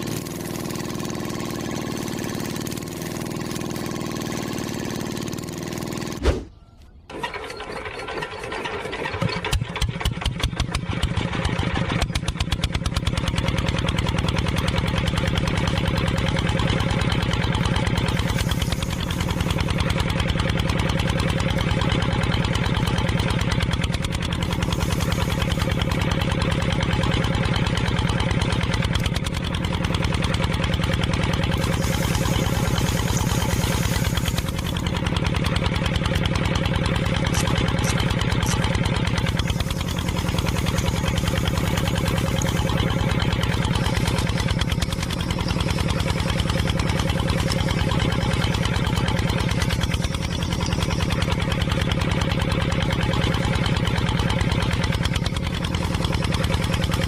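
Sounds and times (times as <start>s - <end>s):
engine starting and running: 0.0s - 57.0s.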